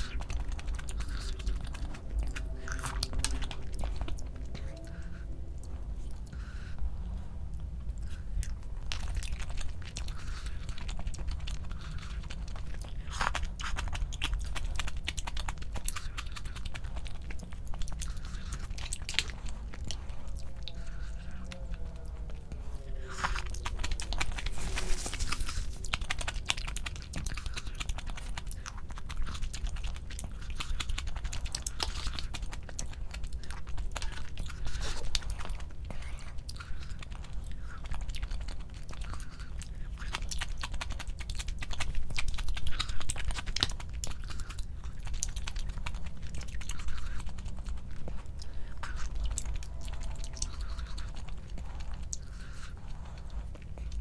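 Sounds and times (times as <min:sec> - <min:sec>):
chewing and biting: 0:00.0 - 0:54.0.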